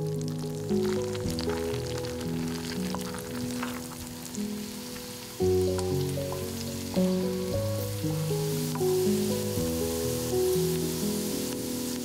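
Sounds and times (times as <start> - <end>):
background music: 0.0 - 12.0
food sizzling in hot oil: 0.0 - 12.0.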